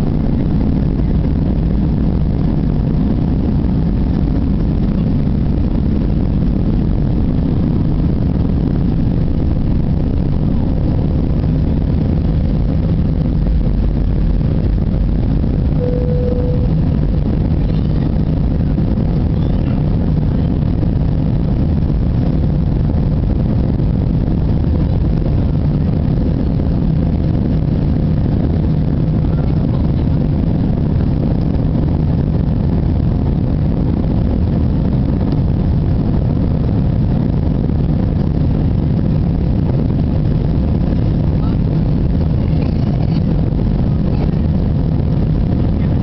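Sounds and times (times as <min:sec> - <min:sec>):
jet cabin engine drone: 0:00.0 - 0:46.0.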